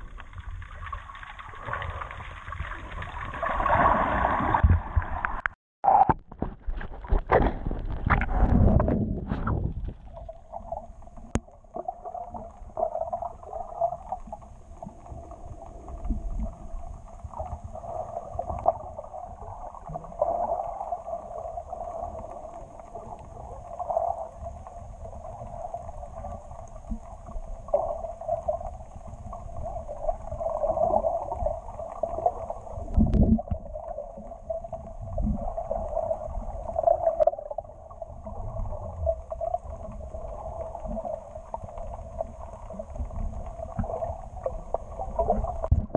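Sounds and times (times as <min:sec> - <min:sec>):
water gurgling underwater: 0:00.0 - 0:45.9.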